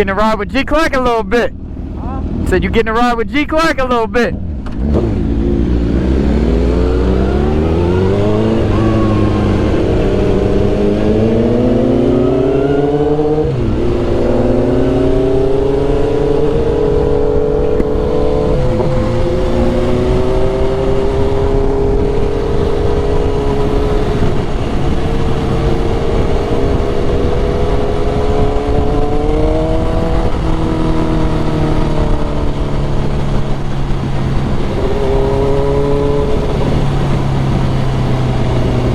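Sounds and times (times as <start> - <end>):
motorcycle engine accelerating: 0.0 - 3.2, 4.2 - 38.9
wind noise: 0.0 - 38.9.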